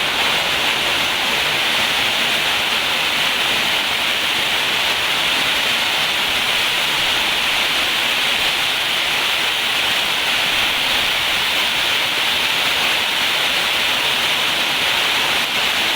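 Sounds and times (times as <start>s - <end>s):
heavy rain hissing: 0.0s - 15.9s.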